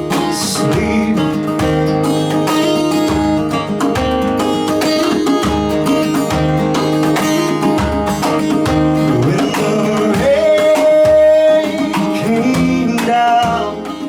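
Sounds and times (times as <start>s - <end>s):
guitar: 0.0s - 14.0s
steady drum beat: 0.0s - 14.0s.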